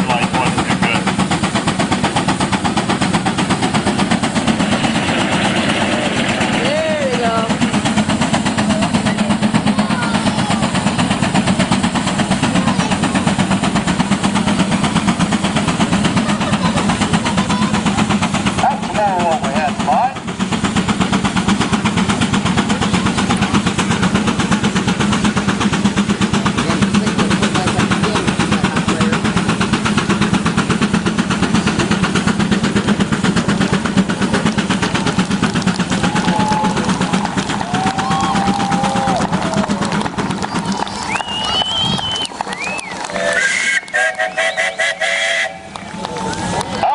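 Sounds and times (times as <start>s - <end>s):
steam engine exhaust chuffing: 0.0s - 46.9s.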